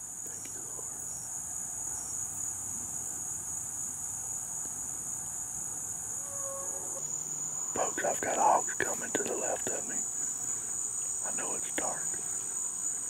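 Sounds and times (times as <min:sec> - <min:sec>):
night insects chorus: 0:00.0 - 0:13.0.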